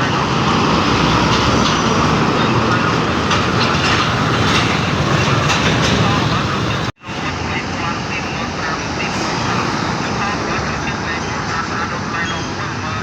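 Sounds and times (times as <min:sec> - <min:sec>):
heavy truck rumble: 0:00.0 - 0:13.0.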